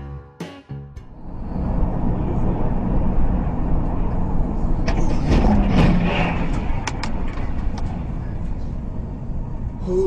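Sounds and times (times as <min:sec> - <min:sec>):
car road and engine rumble: 0:01.0 - 0:10.0.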